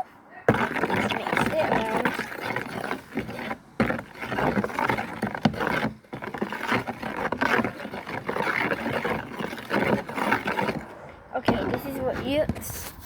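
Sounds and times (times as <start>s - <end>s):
spoon stirring muddy water: 0.0s - 12.2s
spoon scraping container: 0.0s - 13.0s.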